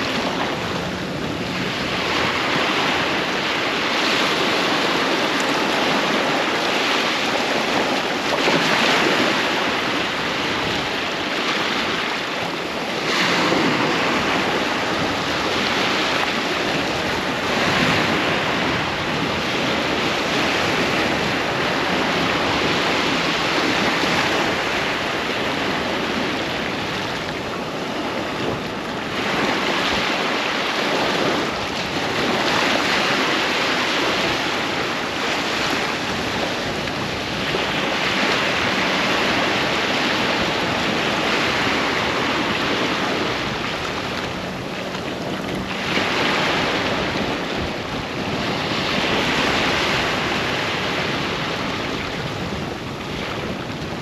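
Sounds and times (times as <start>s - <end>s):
ocean surf on sandy beach: 0.0s - 54.0s
wind on microphone: 0.0s - 54.0s.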